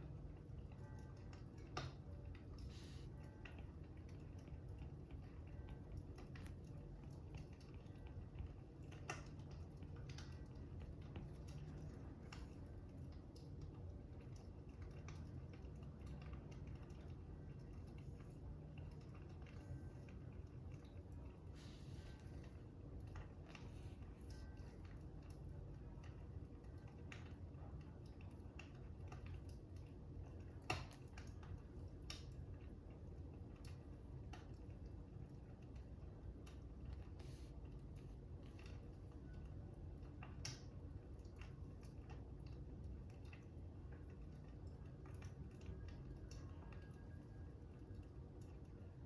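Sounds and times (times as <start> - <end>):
faint crackling fire: 0.0 - 49.0
low steady rumble: 0.0 - 49.0.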